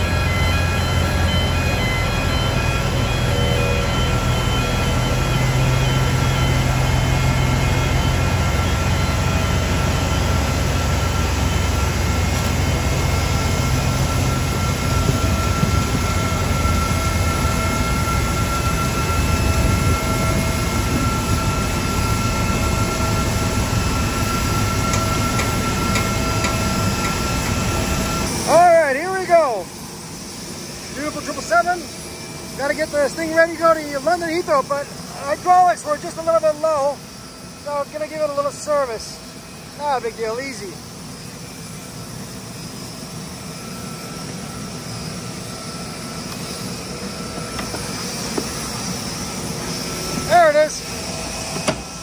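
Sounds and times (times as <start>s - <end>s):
high machinery whine: 0.0s - 52.0s.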